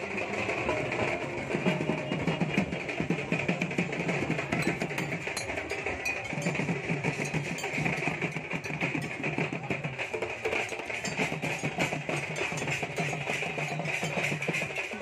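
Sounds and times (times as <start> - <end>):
clinking metal percussion: 0.0 - 15.0
barrel drums beaten: 0.3 - 15.0.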